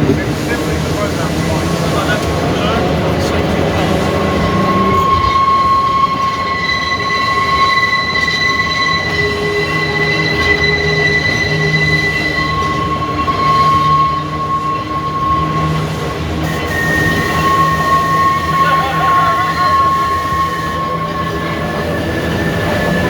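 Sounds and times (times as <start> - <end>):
tram running with high whine: 0.0 - 23.0.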